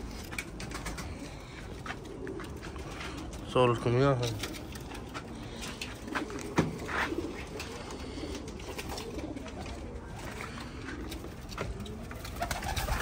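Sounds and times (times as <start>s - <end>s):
pigeons cooing: 0.0s - 13.0s
pigeon wingbeats: 0.1s - 3.5s, 4.2s - 13.0s.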